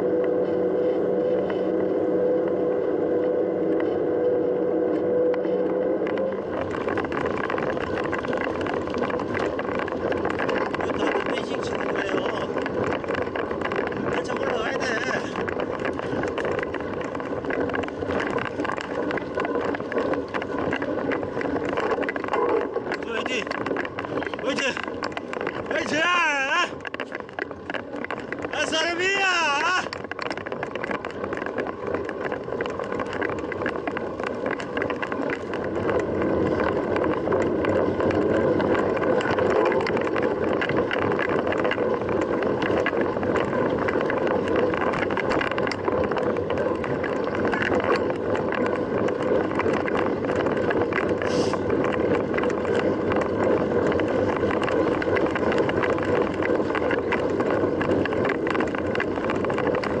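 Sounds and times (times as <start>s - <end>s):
bike tyre noise: 0.0s - 60.0s.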